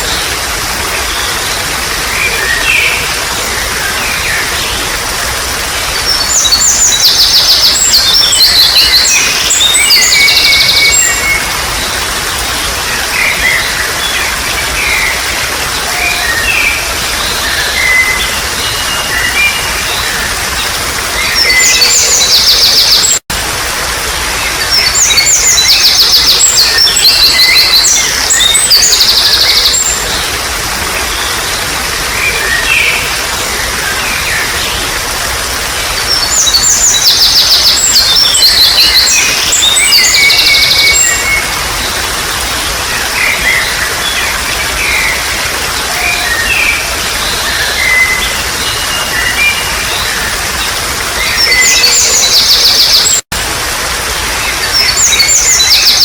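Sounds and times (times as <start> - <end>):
running water trickling: 0.0 - 56.0.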